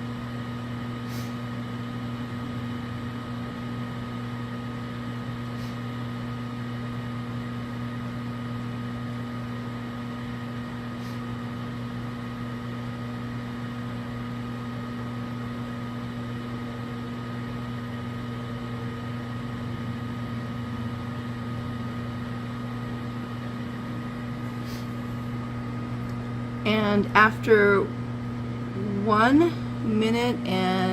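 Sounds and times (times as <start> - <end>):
microwave oven humming: 0.0 - 30.9.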